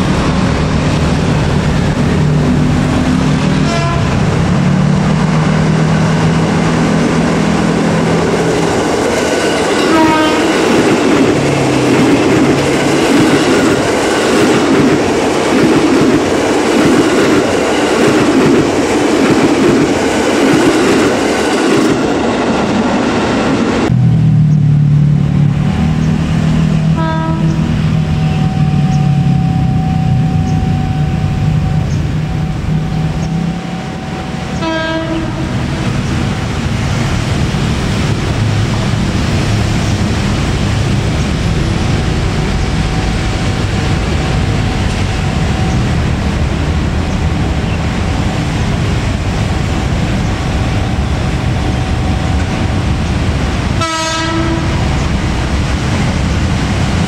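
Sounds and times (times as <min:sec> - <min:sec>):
train wheels clattering on rails: 0:00.0 - 0:23.9, 0:34.5 - 0:57.0
electric train low drone: 0:00.0 - 0:57.0.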